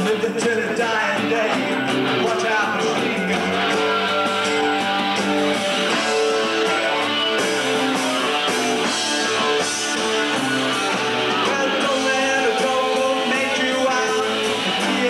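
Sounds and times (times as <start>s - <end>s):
drum kit: 0.0s - 15.0s
electric lead guitar melody: 0.0s - 15.0s
strummed acoustic guitar: 0.0s - 15.0s.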